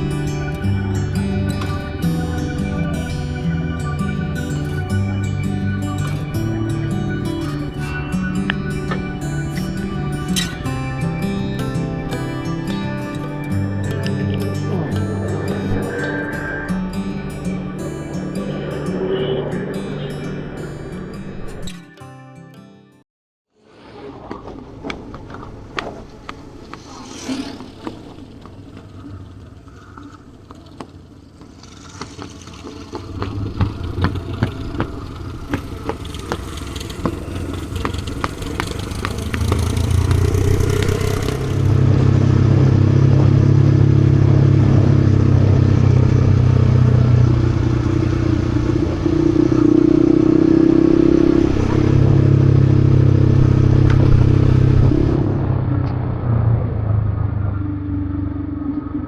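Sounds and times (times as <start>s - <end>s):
motorcycle engine running: 0.0s - 20.0s, 27.5s - 59.0s.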